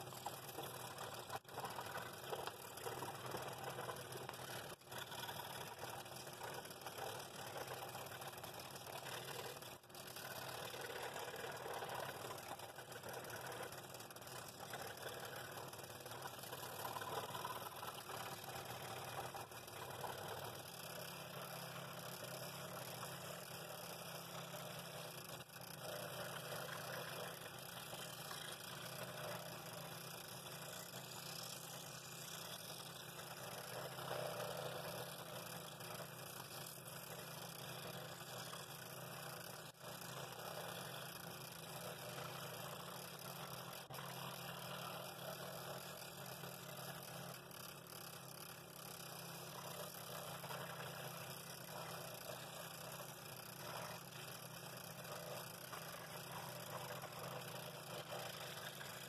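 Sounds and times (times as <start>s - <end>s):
scroll saw cutting wood: 0.0s - 47.3s.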